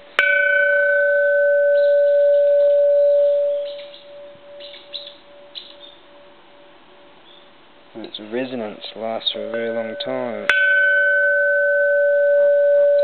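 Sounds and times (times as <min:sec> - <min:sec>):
temple bell ringing: 0:00.0 - 0:07.1, 0:09.4 - 0:13.0.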